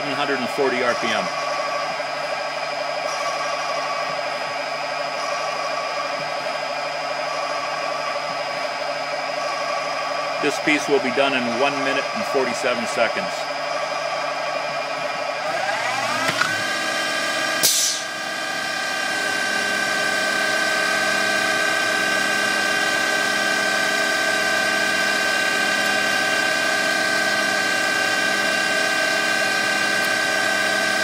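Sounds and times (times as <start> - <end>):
lathe spindle whine: 0.0 - 31.0.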